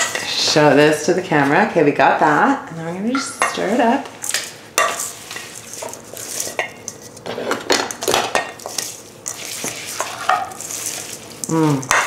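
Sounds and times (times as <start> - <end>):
food rustling and scraping in bowl: 0.0 - 0.5, 2.2 - 12.0.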